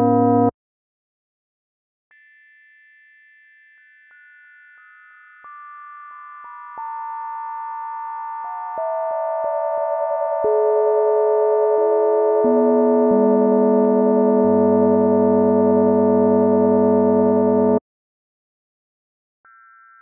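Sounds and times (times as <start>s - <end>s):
sine tones building a bell chord: 0.0s - 0.5s, 2.2s - 17.8s.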